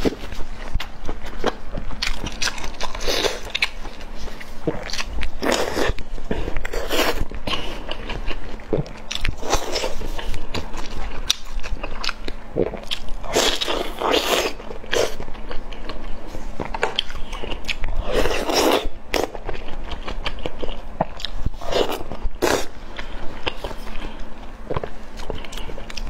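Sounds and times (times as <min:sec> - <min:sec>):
person biting and chewing food: 0:00.0 - 0:26.0.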